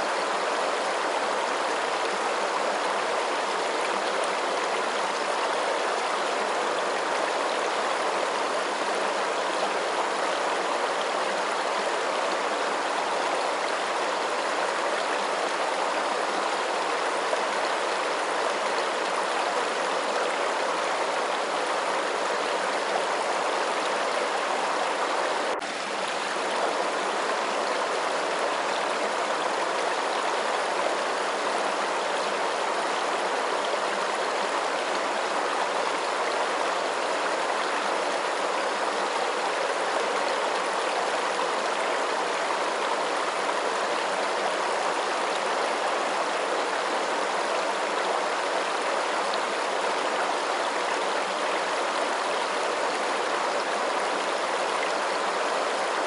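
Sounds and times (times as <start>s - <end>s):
rush of running water: 0.0s - 56.0s.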